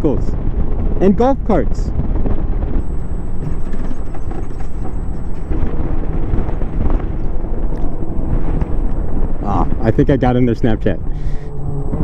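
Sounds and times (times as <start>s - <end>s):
wind buffeting microphone: 0.0s - 12.0s
golf cart rumble: 2.1s - 12.0s.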